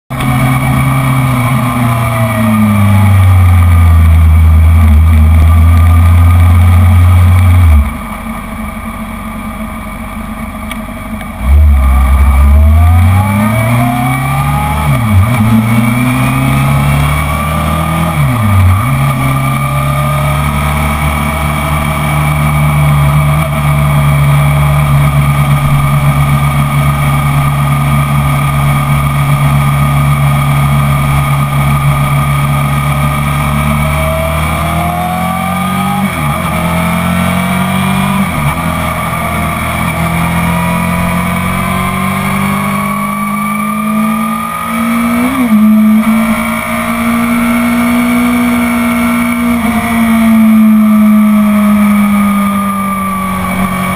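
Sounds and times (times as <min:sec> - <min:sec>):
motorcycle engine running: 0:00.1 - 0:53.9.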